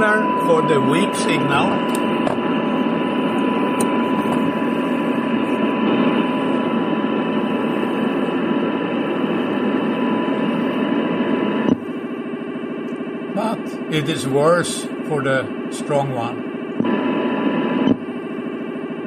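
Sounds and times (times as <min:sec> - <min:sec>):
steady radio tone: 0:00.0 - 0:19.0.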